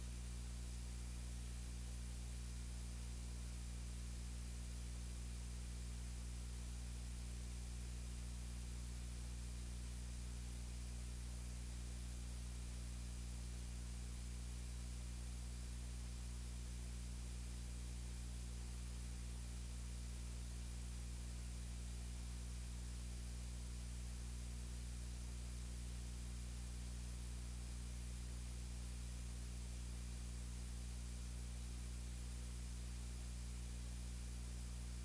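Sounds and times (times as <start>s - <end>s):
electrical hum with faint hiss: 0.0s - 35.0s.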